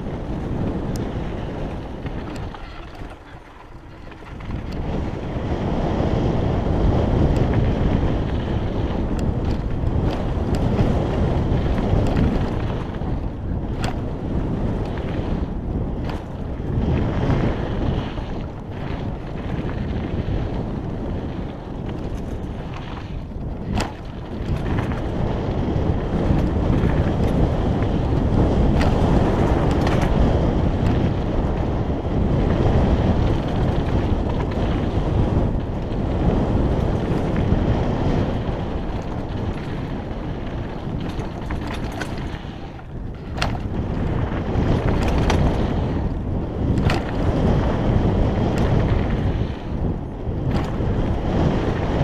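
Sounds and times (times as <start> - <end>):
bike rattling over rocks: 0.0 - 52.0
bike tyres rumbling on gravel: 0.0 - 52.0
wind buffeting microphone: 0.0 - 52.0.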